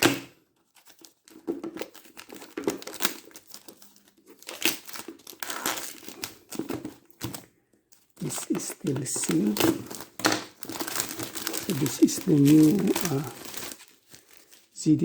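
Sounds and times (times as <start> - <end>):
plastic and cardboard crinkling: 0.0 - 15.0.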